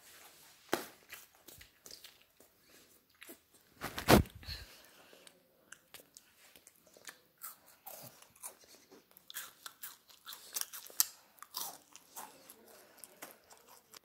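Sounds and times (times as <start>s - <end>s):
chewing crunchy wafer: 1.1s - 4.2s, 5.8s - 14.0s.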